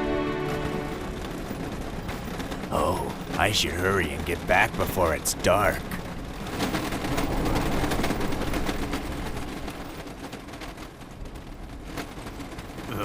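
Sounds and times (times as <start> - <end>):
cartoon train clattering: 0.0 - 13.0.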